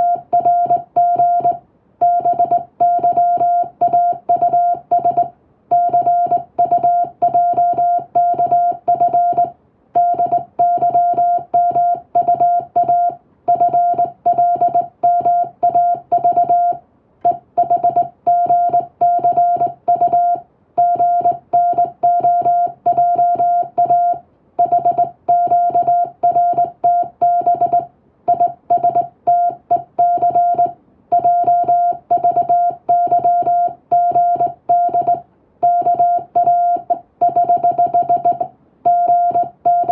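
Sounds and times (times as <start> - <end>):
morse code beeping tone: 0.0 - 39.9.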